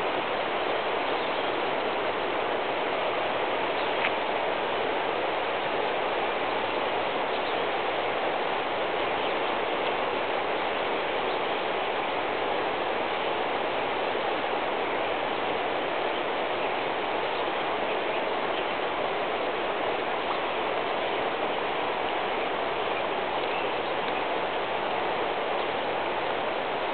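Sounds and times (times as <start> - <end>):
floodwater rushing: 0.0 - 26.9.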